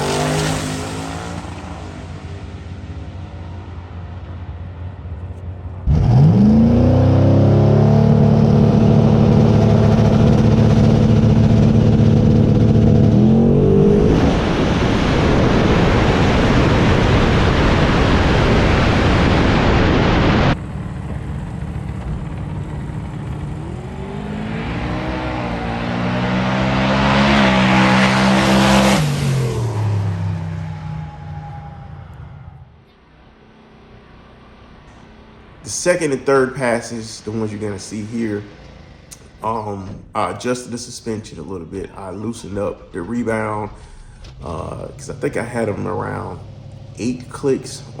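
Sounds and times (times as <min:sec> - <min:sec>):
drag car engine revving: 0:00.0 - 0:48.0.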